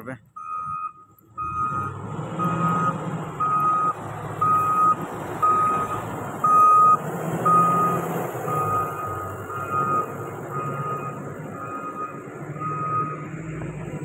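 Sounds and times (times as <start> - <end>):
diesel engine running: 0.0 - 14.0
backup alarm beeping: 0.3 - 13.3.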